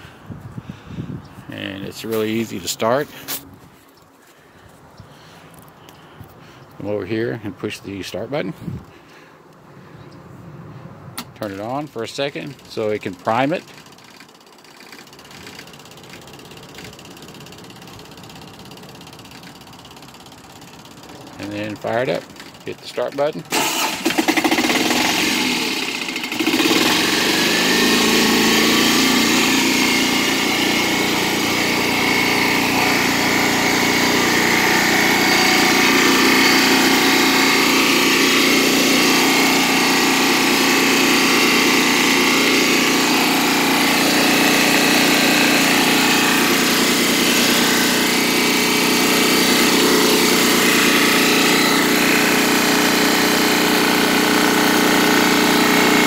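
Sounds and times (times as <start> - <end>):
diesel generator running: 0.0 - 56.0.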